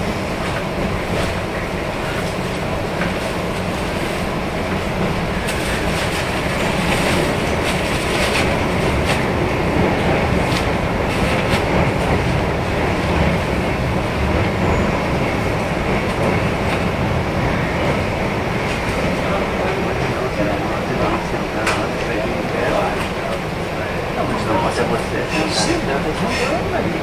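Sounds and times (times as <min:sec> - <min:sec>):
train rumble from inside: 0:00.0 - 0:27.0.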